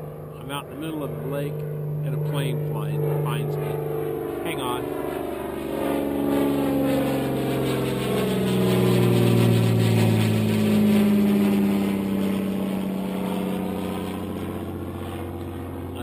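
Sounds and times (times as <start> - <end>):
low-flying plane engine drone: 0.0 - 16.0.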